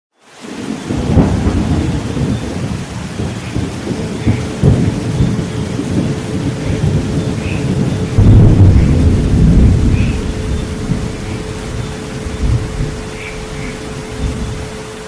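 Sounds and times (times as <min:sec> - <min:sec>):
steady rain: 0:00.1 - 0:15.0
thunder rumbling: 0:00.4 - 0:15.0.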